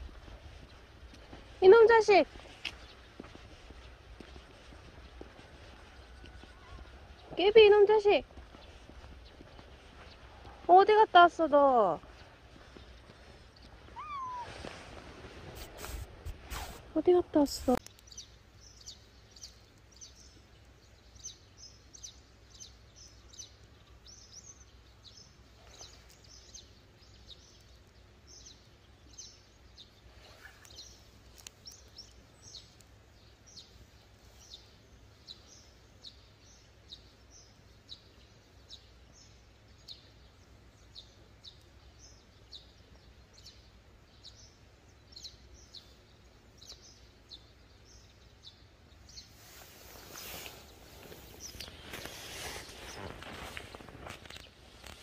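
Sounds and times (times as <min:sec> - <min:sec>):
small bird chirping: 0:00.5 - 0:14.7, 0:15.7 - 0:55.0.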